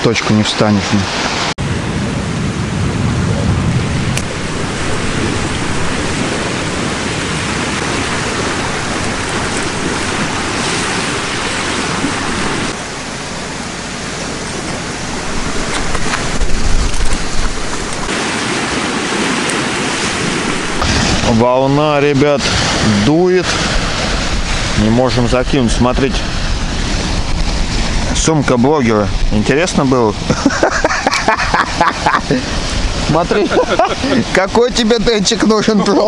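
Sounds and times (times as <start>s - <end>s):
choppy water waves: 0.0s - 36.0s
wind buffeting microphone: 1.0s - 36.0s.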